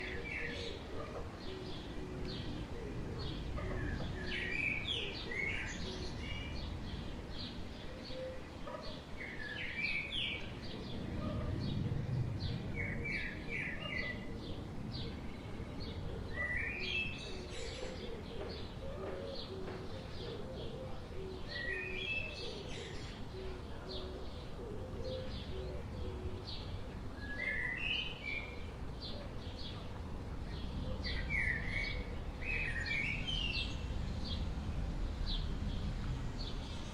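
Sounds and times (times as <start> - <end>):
birds chirping and singing: 0.0 - 36.9.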